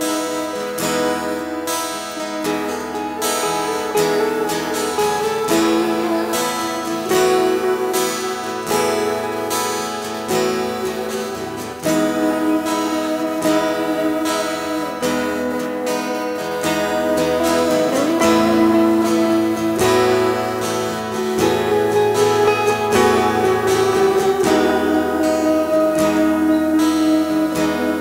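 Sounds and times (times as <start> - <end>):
acoustic guitar strumming: 0.0 - 28.0
electric guitar playing: 0.0 - 28.0.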